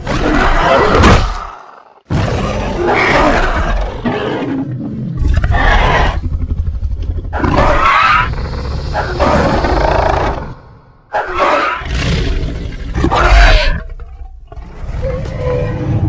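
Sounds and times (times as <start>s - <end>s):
growling dinosaur roars: 0.1s - 16.0s.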